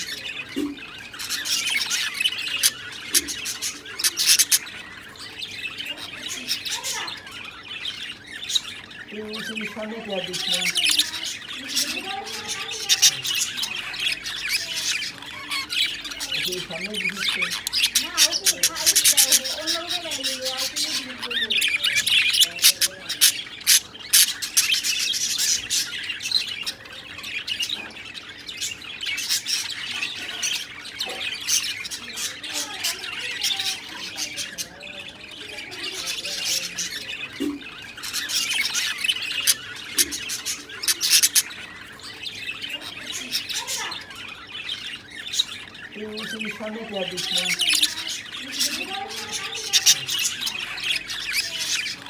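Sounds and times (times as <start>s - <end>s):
budgerigars chattering: 0.0s - 52.0s.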